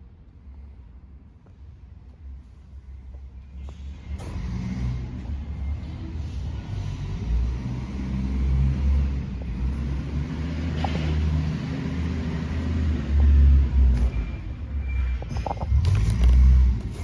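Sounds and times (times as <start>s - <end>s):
truck engine rumbling: 2.2s - 17.0s.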